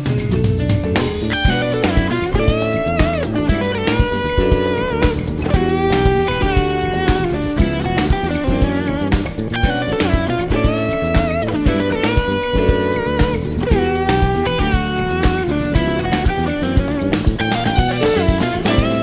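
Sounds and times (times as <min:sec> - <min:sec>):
bass: 0:00.0 - 0:19.0
bluesy electric guitar lead: 0:00.0 - 0:19.0
steady beat: 0:00.0 - 0:19.0.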